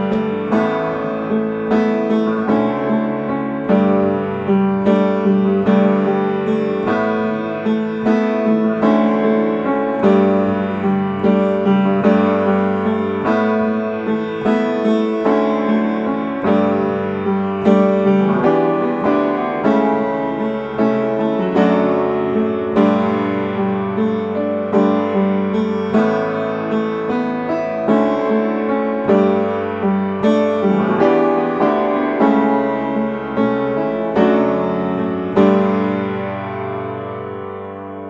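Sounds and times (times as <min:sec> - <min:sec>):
piano chords: 0:00.0 - 0:38.0.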